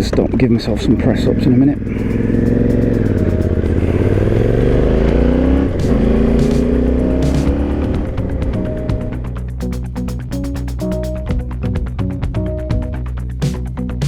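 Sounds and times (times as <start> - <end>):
motorcycle engine accelerating: 0.3 - 12.0
music: 2.0 - 14.0.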